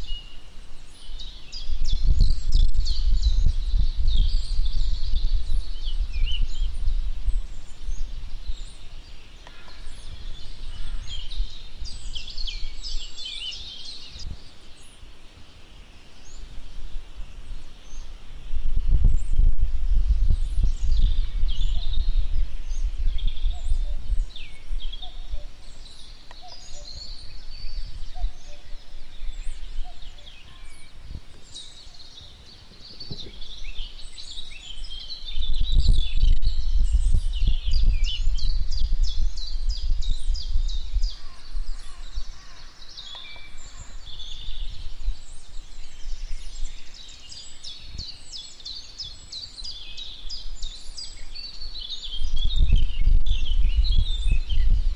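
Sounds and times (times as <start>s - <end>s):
wind buffeting microphone: 0.0s - 15.0s, 16.2s - 54.9s
birds chirping and calling: 0.0s - 19.5s, 20.3s - 54.9s.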